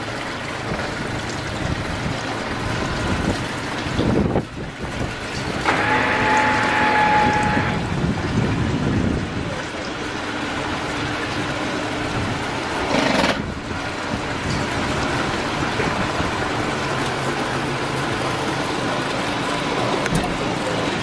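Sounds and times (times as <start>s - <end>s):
faint low engine hum: 0.0s - 21.0s
rushing water: 0.0s - 21.0s.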